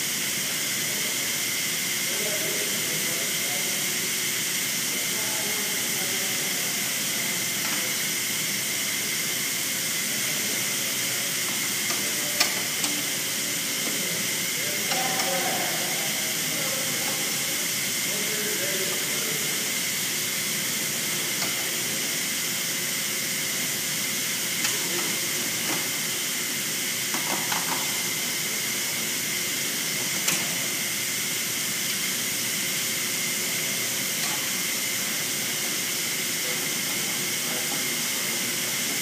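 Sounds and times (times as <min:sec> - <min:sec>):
steady airy hiss: 0:00.0 - 0:39.0.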